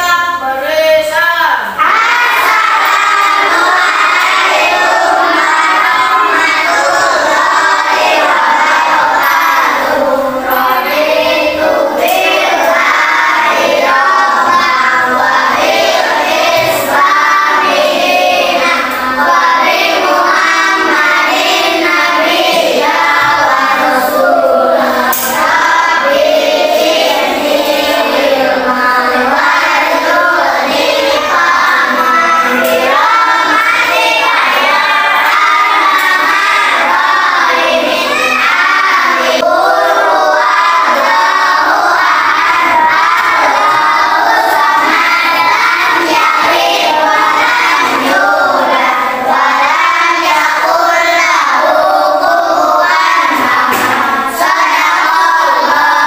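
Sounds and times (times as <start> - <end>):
children singing in unison: 0.0 - 56.0.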